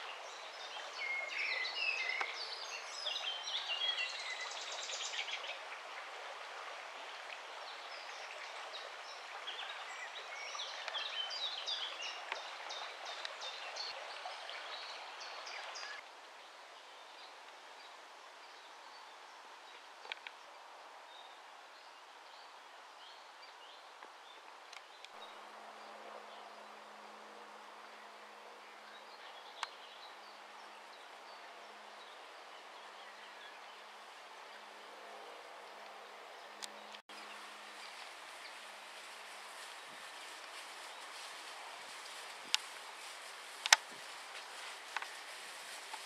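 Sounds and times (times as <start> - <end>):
steady outdoor hiss: 0.0 - 46.0.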